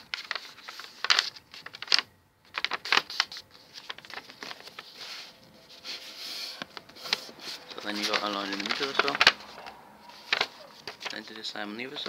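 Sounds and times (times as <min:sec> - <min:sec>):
paper folding and crinkling: 0:00.0 - 0:12.0.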